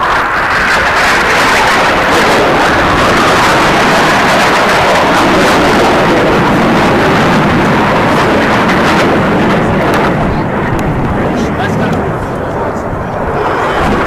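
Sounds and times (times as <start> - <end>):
racing aircraft engines passing low: 0.0 - 14.0.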